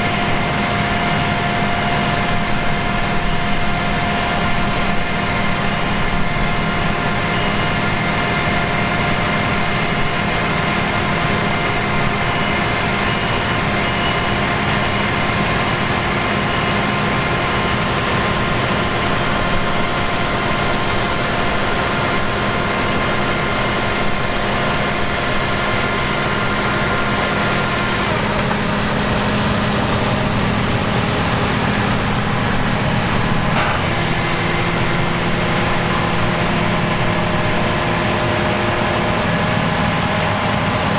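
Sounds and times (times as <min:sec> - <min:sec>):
diesel farm machinery running: 0:00.0 - 0:40.9.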